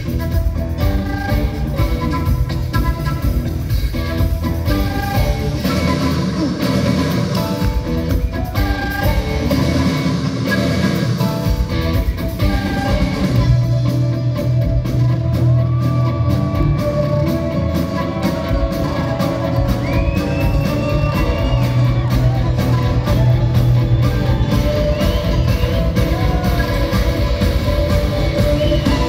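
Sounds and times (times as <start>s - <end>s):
live rock band with flute: 0.0s - 29.0s.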